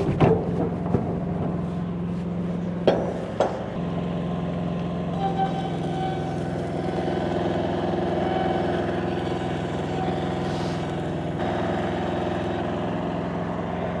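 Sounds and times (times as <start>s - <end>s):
welder generator engine running: 1.5s - 14.0s.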